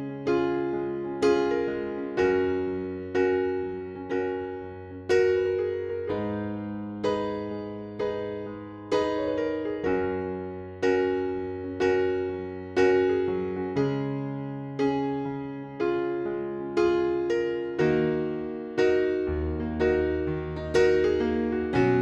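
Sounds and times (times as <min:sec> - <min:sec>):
piano playing slow chords: 0:00.0 - 0:22.0.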